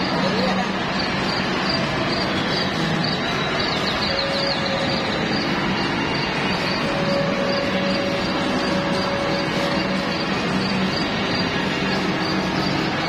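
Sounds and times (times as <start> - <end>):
carousel mechanical running noise: 0.0 - 13.0.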